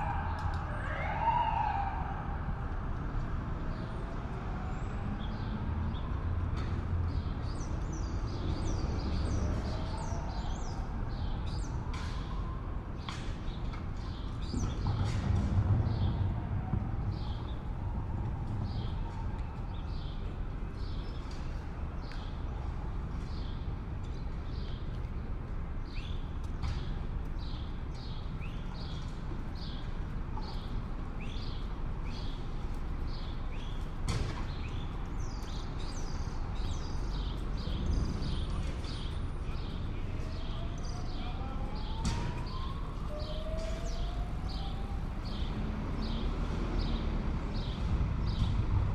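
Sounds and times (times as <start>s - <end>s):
traffic hum: 0.0s - 48.9s.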